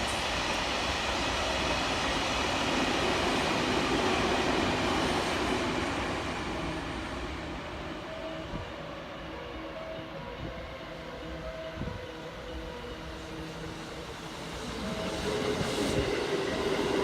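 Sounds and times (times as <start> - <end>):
electric train wheels on rails: 0.0 - 17.0.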